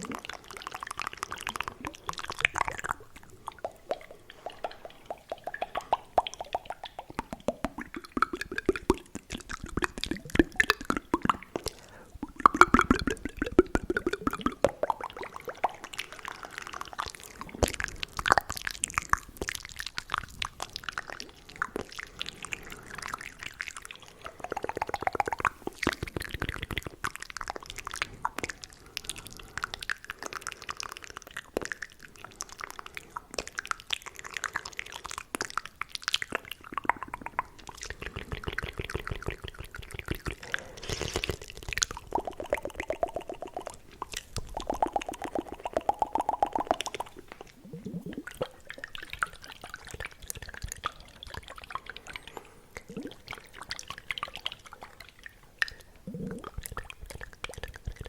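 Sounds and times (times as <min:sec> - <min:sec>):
wet mouth sounds: 0:00.0 - 0:58.0.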